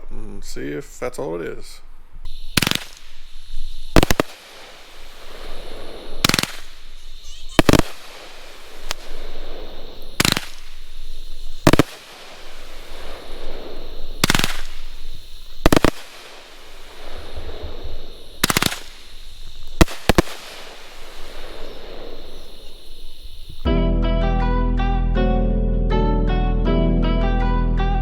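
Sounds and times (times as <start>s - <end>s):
fireworks cake reports: 0.0s - 23.6s
fireworks hiss: 0.6s - 23.7s.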